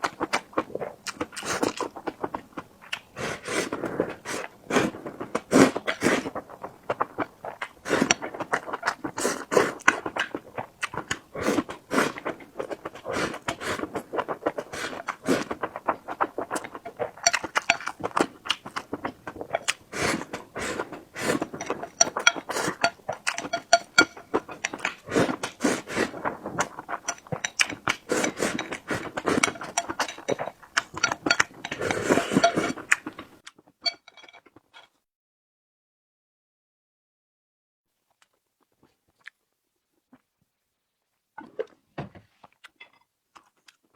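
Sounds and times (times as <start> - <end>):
chewing and wet mouth sounds: 0.0 - 34.9, 38.1 - 40.3, 41.4 - 43.9.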